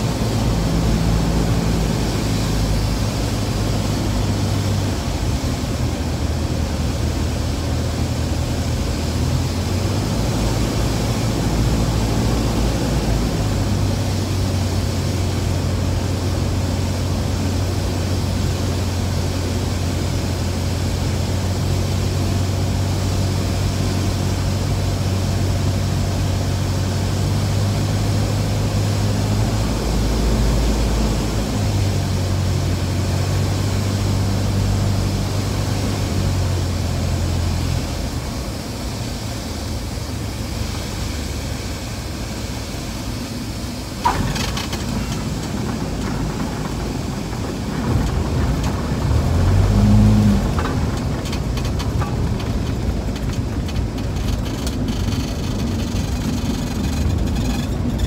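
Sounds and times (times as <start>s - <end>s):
light aircraft engine drone: 0.0s - 58.0s.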